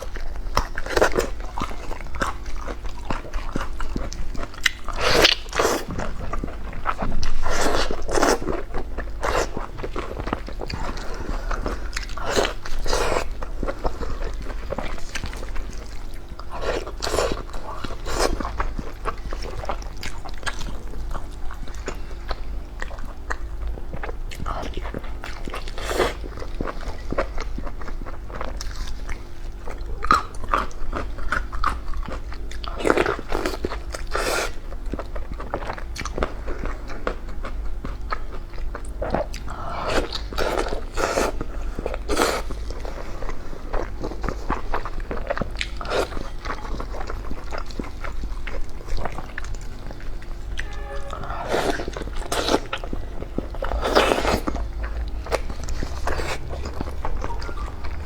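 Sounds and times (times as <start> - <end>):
person chewing food: 0.0 - 58.0
steady low hum: 0.0 - 58.0.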